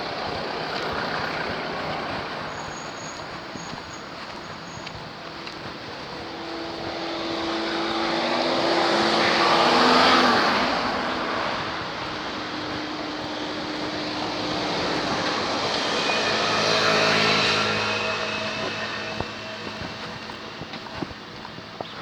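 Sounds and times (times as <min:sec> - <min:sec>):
motor vehicles passing on road: 0:00.0 - 0:22.0.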